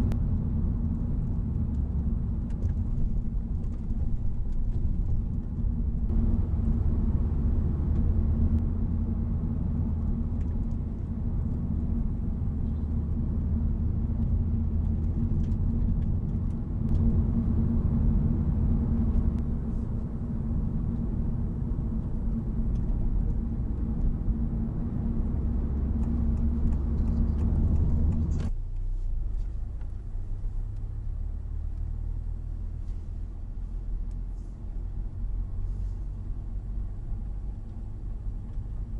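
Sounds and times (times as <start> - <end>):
car engine and road noise rumble: 0.0 - 38.9.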